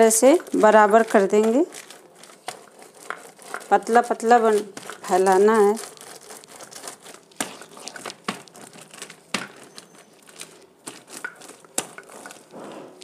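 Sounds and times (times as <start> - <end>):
plastic sheet crinkling: 0.0 - 13.0.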